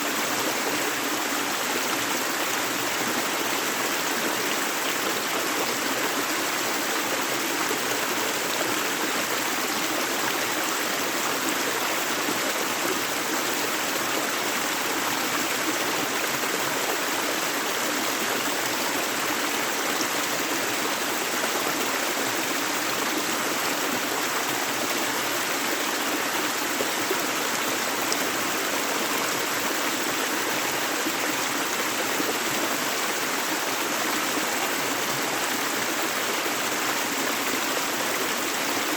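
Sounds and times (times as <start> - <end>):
flowing river: 0.0 - 38.9.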